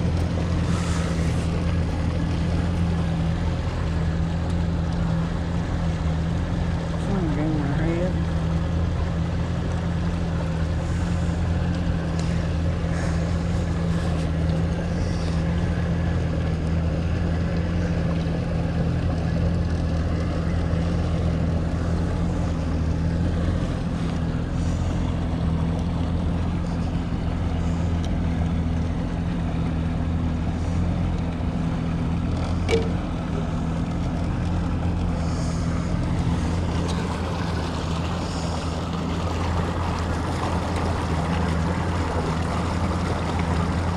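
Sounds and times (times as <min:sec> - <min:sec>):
outboard motor running: 0:00.0 - 0:43.9
water wash: 0:00.0 - 0:43.9.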